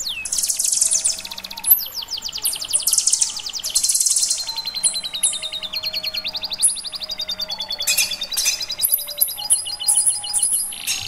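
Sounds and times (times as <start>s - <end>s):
downward sweeping bird whistles: 0.0s - 11.0s
songbird trilling: 0.0s - 11.0s.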